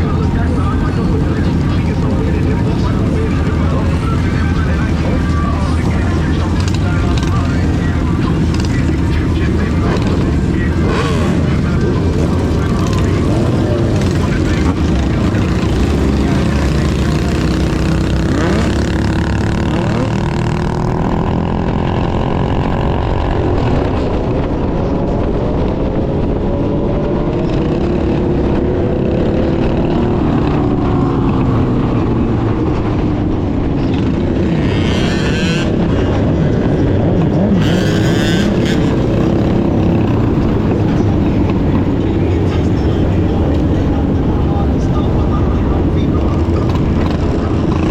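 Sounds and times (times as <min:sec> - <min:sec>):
small motorbike engines revving: 0:00.0 - 0:24.2, 0:26.5 - 0:47.9
constant low rumble: 0:00.0 - 0:47.9.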